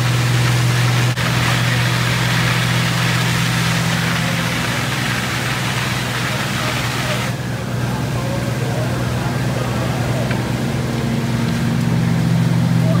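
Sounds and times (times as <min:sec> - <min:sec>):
large engine running steadily: 0:00.0 - 0:13.0.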